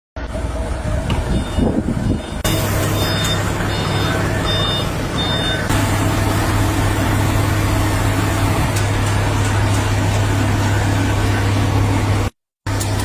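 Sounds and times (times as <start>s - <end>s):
loud engine hum: 0.2s - 13.0s.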